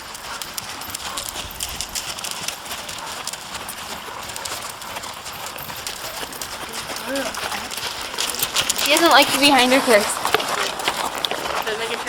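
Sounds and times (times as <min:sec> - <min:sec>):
horse hoofbeats: 0:00.0 - 0:12.0.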